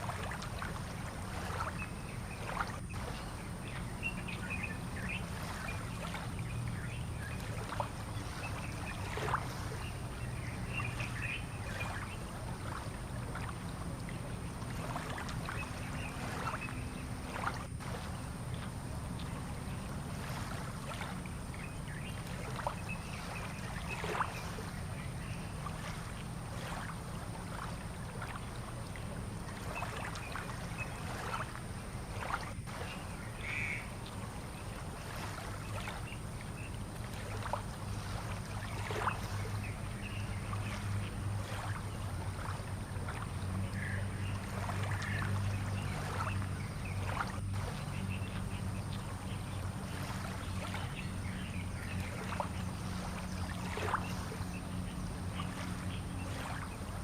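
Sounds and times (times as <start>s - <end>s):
boat engine hum: 0.0s - 57.0s.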